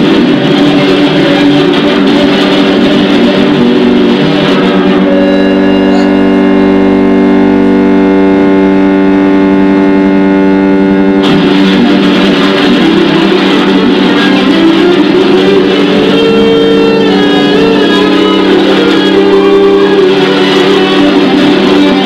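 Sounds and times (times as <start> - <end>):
noisy guitar and bass improvisation: 0.0 - 22.0.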